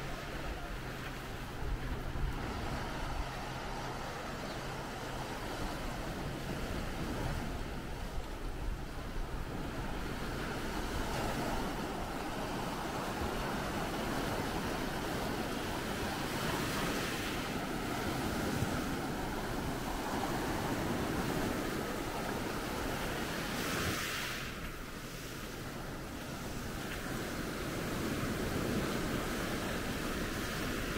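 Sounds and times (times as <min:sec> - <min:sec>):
small waves washing over sand: 0:00.0 - 0:30.9.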